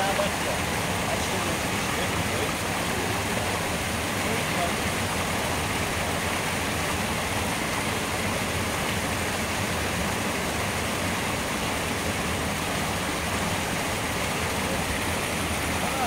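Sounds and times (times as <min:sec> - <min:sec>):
river water rushing over causeway: 0:00.0 - 0:16.0.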